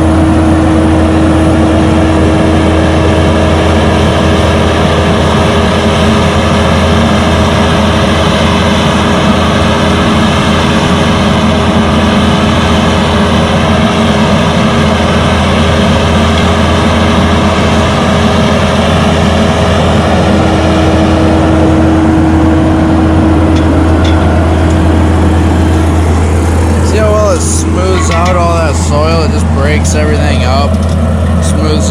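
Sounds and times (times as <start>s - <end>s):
diesel engine running: 0.0s - 31.9s
steady higher tone: 0.0s - 31.9s.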